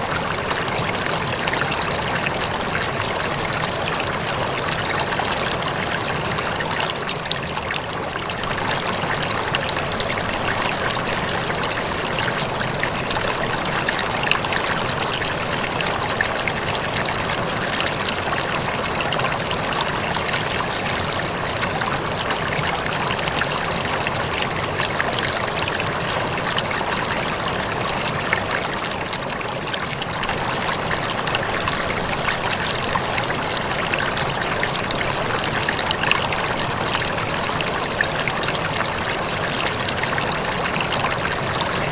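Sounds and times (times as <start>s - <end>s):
aquarium water trickling and splashing: 0.0s - 41.9s.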